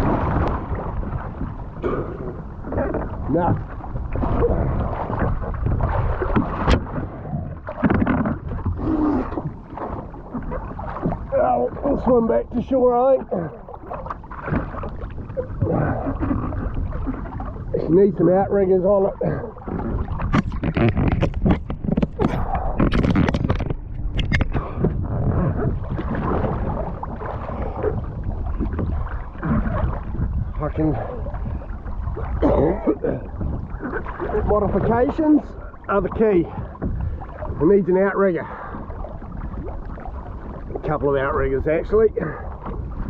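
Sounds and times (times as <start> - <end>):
water sloshing and splashing: 0.0 - 43.0
wind on microphone: 0.0 - 43.0.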